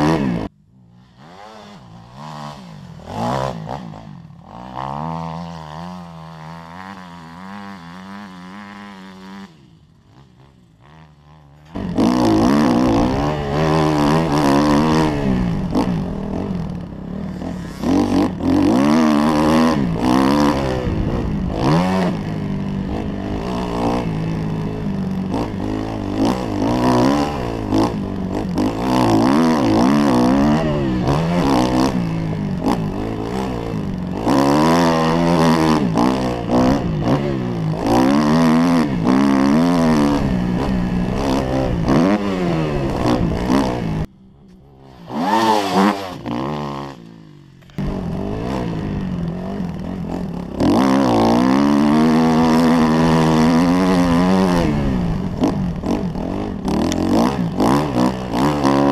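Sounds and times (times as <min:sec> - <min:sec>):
motocross engine running hard: 0:00.0 - 0:58.9.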